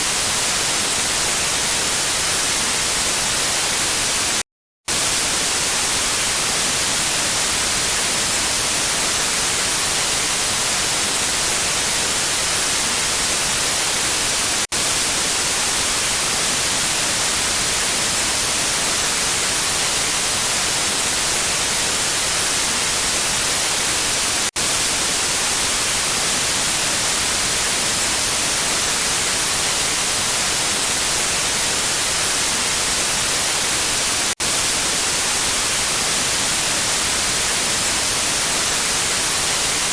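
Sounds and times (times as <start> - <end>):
static white noise hiss: 0.0 - 39.9.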